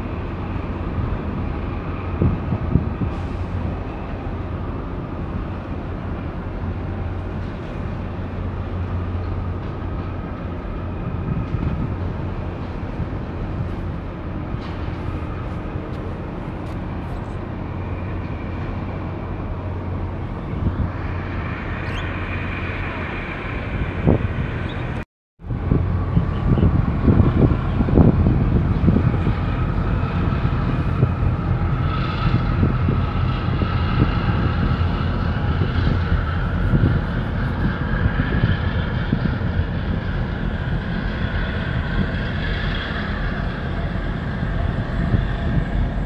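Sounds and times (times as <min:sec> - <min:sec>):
ship diesel engine drone: 0:00.0 - 0:46.0
wind and water noise: 0:00.0 - 0:46.0.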